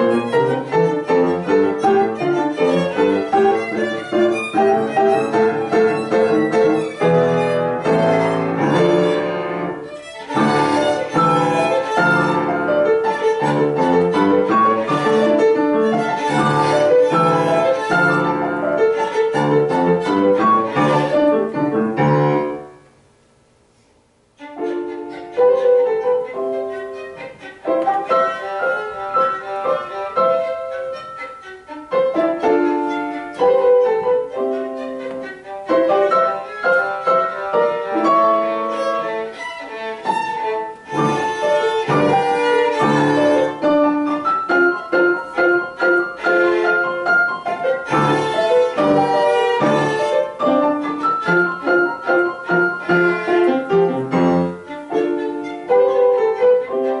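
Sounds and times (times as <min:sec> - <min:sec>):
violin: 0:00.0 - 0:23.1, 0:24.2 - 0:57.0
piano chords: 0:00.0 - 0:23.5, 0:24.3 - 0:57.0.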